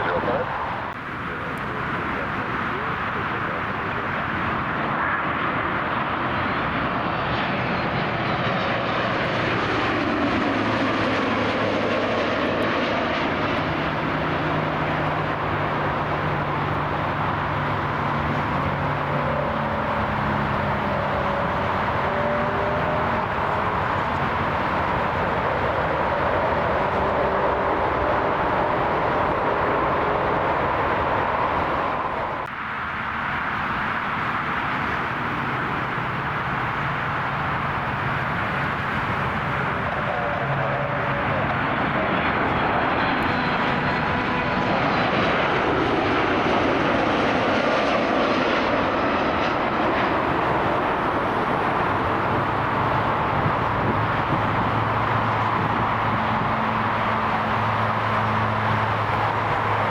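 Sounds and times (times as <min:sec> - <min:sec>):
jet airliner engines roaring: 0:00.0 - 0:59.9.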